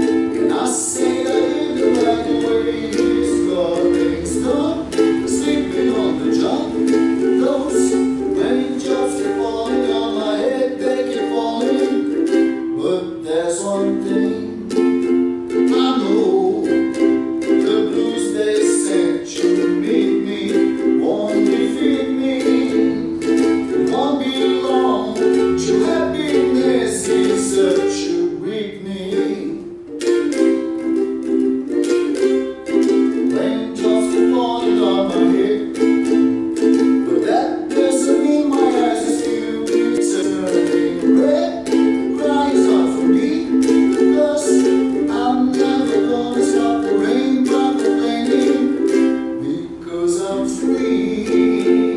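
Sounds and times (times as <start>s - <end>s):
man singing: 0.0s - 51.9s
ukulele strumming: 0.0s - 51.9s.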